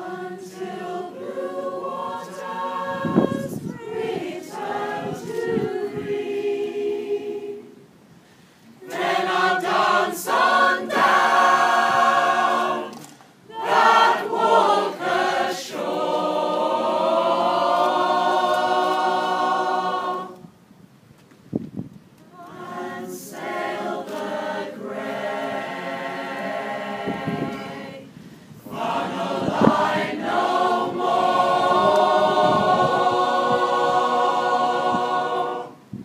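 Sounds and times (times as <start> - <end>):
mixed choir singing unaccompanied: 0.0 - 8.0, 8.8 - 20.6, 22.3 - 36.0.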